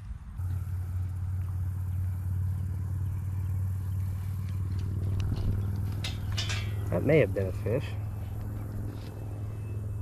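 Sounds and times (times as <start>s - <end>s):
motor humming: 0.3s - 10.0s.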